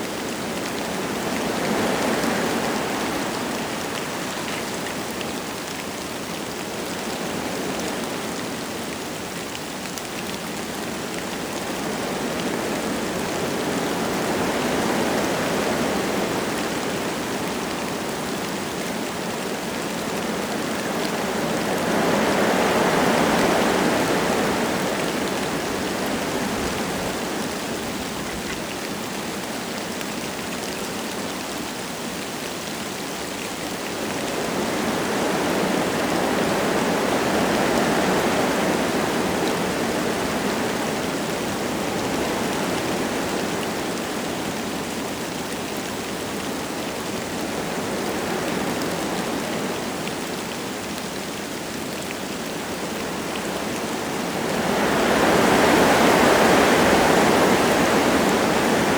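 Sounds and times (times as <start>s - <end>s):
light rain falling: 0.0s - 58.9s
wind gusting through trees: 0.0s - 58.9s.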